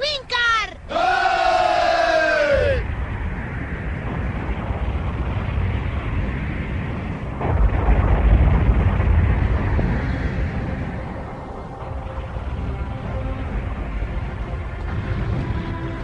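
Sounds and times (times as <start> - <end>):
low rumble: 0.0 - 16.0
explosion-like rumble: 1.4 - 16.0.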